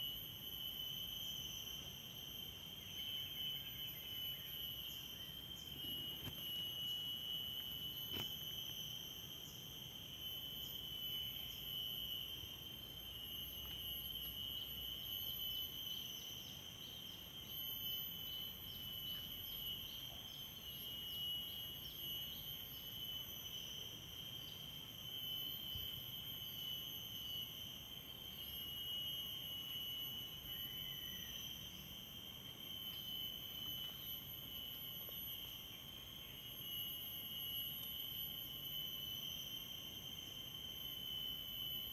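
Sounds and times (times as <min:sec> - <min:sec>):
insects droning: 0:00.0 - 0:41.9.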